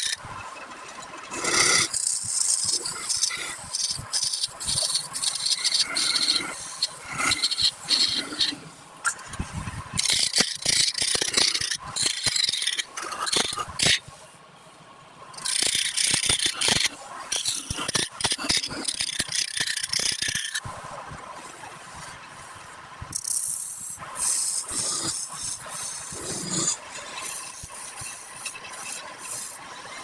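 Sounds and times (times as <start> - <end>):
tool scraping and rattling on wood: 1.0 - 14.1, 15.4 - 20.6, 24.0 - 30.0.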